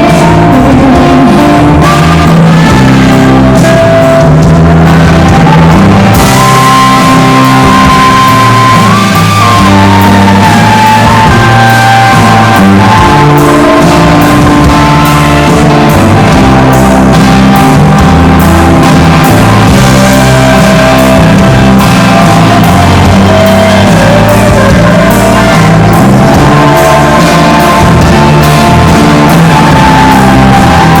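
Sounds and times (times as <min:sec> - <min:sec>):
lead guitar line bending pitch: 0:00.0 - 0:31.0
rock band playing live: 0:00.0 - 0:31.0.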